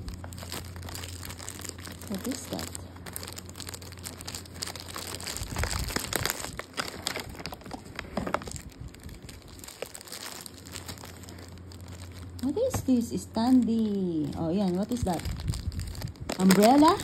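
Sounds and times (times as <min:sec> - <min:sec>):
plastic wrapping crinkling and tearing: 0:00.0 - 0:17.0.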